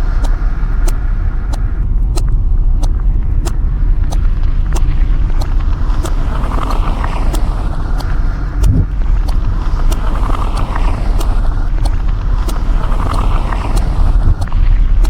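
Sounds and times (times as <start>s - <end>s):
car engine and road rumble: 0.0s - 15.0s
sharp ticks: 0.0s - 15.0s.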